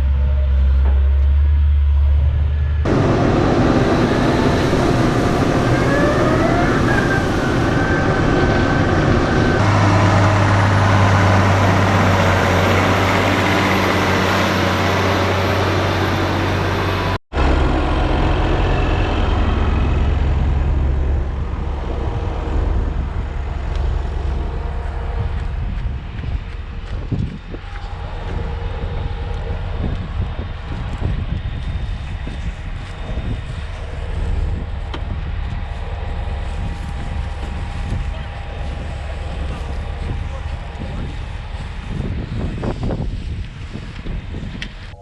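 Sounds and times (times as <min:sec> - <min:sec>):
heavy vehicle engine running: 0:00.0 - 0:45.0.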